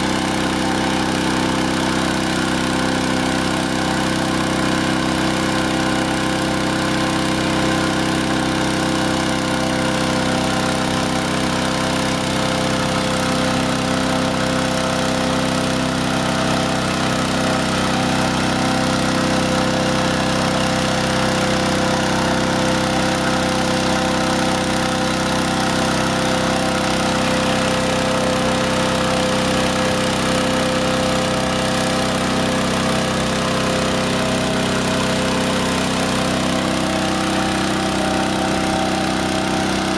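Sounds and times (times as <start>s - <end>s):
inflator fan engine running: 0.0s - 39.9s.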